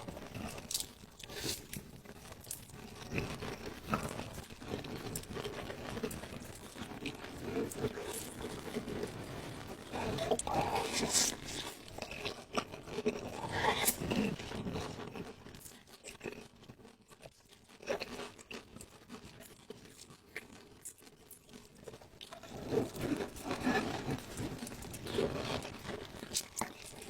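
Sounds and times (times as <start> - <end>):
person chewing and crunching food: 0.0 - 27.0.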